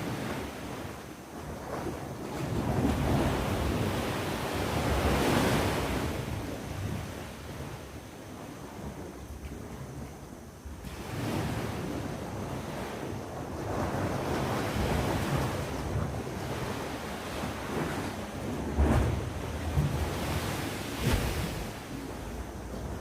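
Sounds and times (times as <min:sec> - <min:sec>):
sea waves washing onto shore: 0:00.0 - 0:09.1, 0:10.3 - 0:23.0
wind buffeting microphone: 0:00.0 - 0:23.0.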